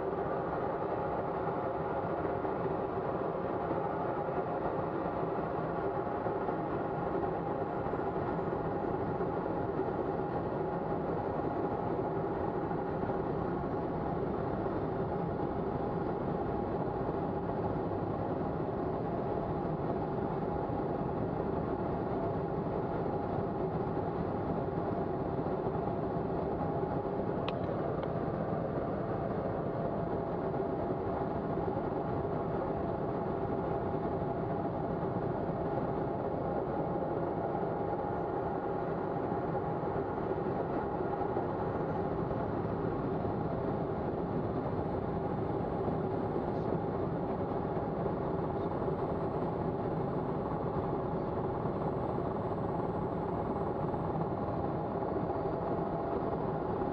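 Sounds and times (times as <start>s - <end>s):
airflow and engine drone: 0.0s - 56.9s.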